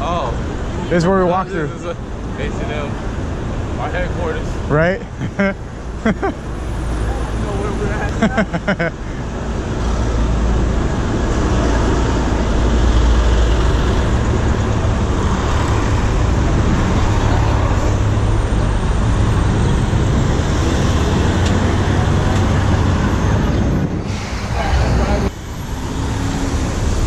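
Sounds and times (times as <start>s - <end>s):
city traffic noise: 0.0s - 27.0s.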